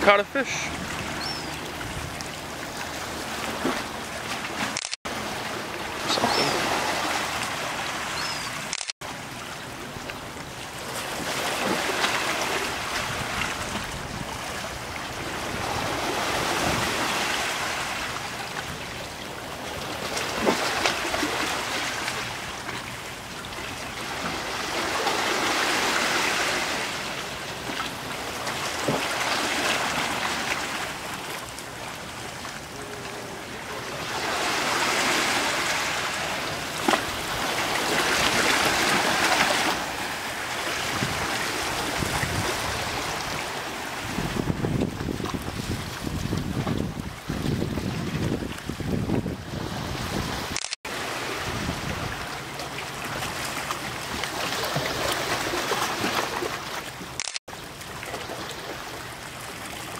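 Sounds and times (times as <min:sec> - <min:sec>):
sea waves washing over rocks: 0:00.0 - 0:59.9.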